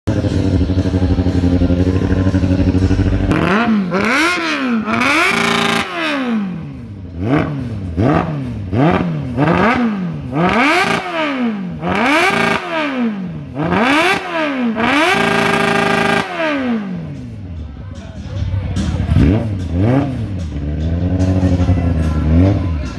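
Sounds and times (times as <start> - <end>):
engine with loud exhaust revving: 0.0 - 17.7, 18.5 - 22.9.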